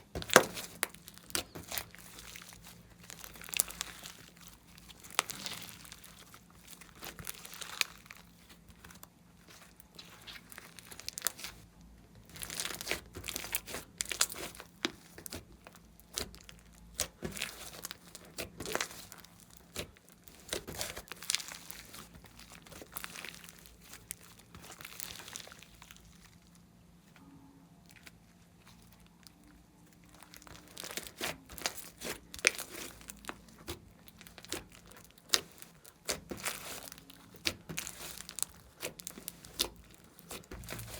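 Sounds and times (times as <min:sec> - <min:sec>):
slime crackling and popping: 0:00.0 - 0:26.7, 0:27.9 - 0:40.9.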